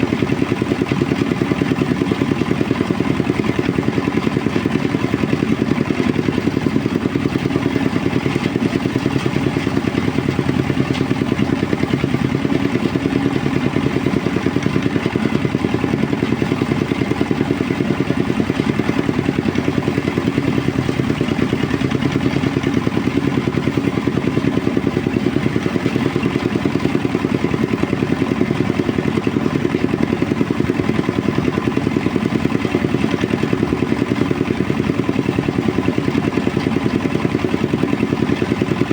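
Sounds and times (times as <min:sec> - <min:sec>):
threshing machine engine running: 0:00.0 - 0:38.9.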